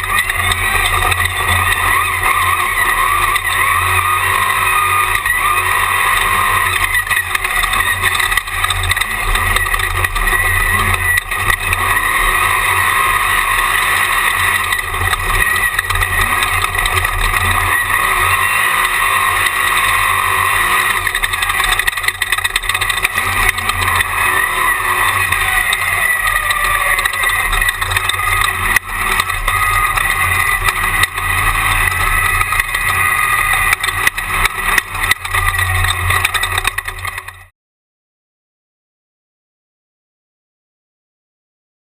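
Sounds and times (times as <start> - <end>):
race buggy engine driving: 0.0 - 37.5.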